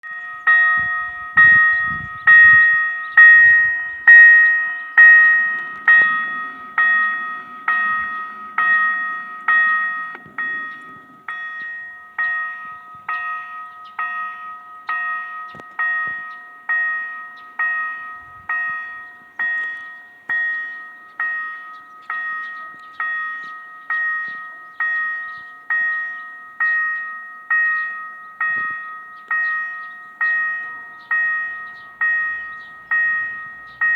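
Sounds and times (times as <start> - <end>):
level-crossing warning bell ringing: 0.0 - 33.9.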